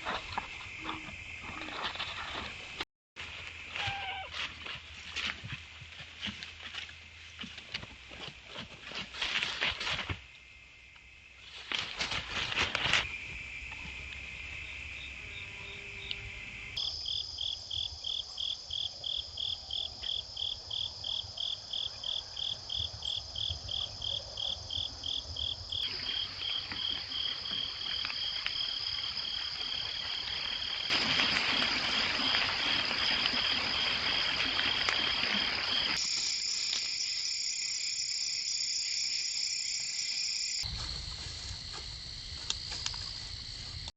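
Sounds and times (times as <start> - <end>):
crickets chirping: 0.0 - 5.0, 9.0 - 43.9.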